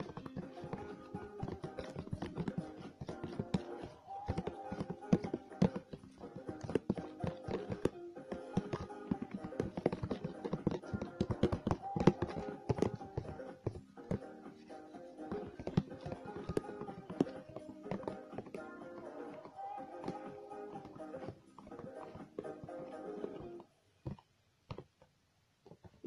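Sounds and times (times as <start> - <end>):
background music: 0.0 - 23.6
utensil stirring eggs in plastic tub: 0.0 - 25.0.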